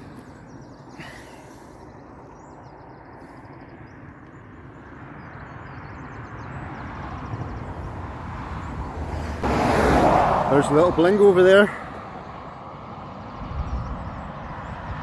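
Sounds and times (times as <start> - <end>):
faint birdsong: 0.0 - 8.9, 11.2 - 15.0
car approaching: 0.0 - 15.0.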